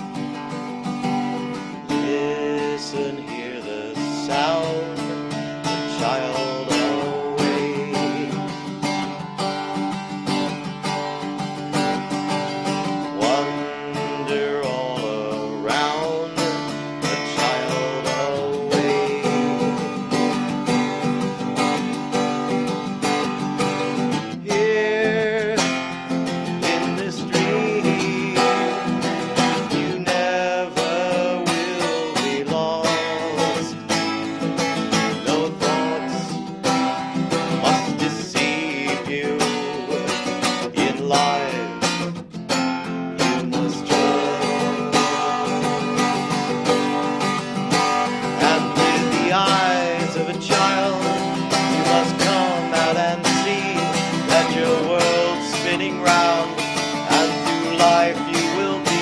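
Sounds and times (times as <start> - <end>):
acoustic guitar country music: 0.0 - 59.0.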